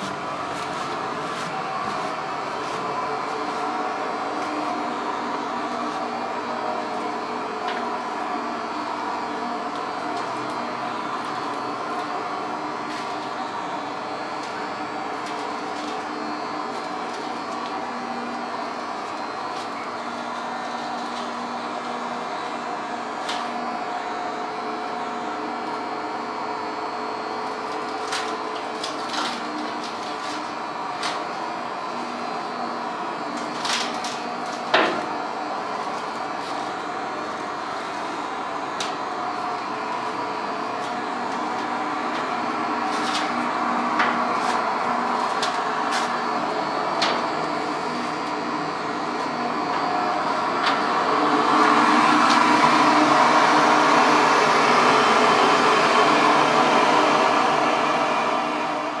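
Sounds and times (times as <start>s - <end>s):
steady machinery hum: 0.0s - 59.0s.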